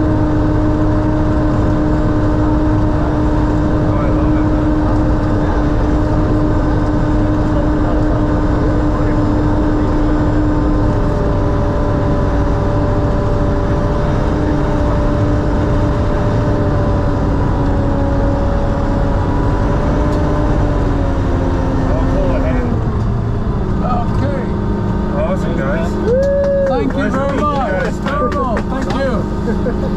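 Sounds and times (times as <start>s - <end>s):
diesel engine rumbling with whine: 0.0s - 29.9s.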